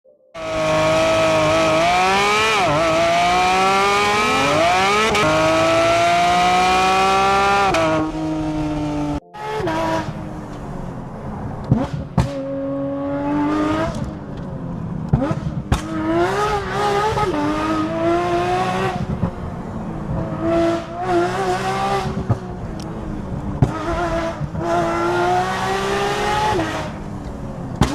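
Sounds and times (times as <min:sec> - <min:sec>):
car engine revving hard: 0:00.4 - 0:10.2, 0:11.6 - 0:14.1, 0:15.1 - 0:27.1.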